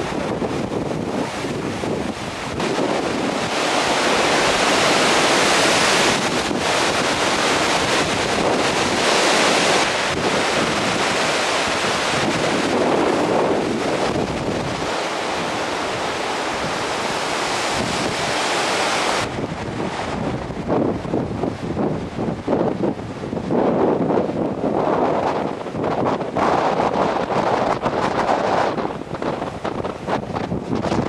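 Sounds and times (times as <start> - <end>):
surf: 0.0 - 31.0
wind buffeting microphone: 0.0 - 31.0
wind rushing: 0.0 - 31.0.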